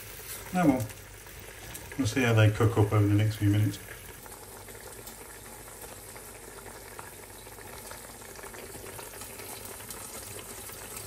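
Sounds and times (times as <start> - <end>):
sausages sizzling in frying pan: 0.0 - 11.0.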